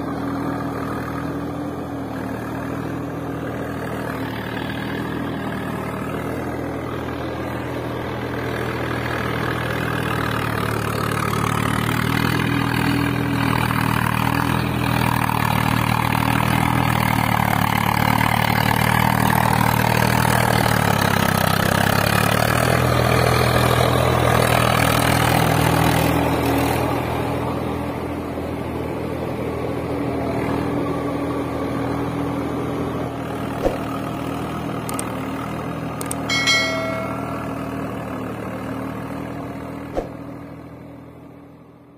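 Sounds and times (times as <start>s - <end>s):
engine running and revving: 0.0s - 36.2s.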